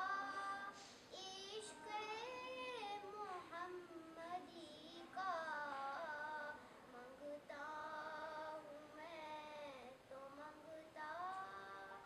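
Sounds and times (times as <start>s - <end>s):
girl singing: 0.0s - 12.0s.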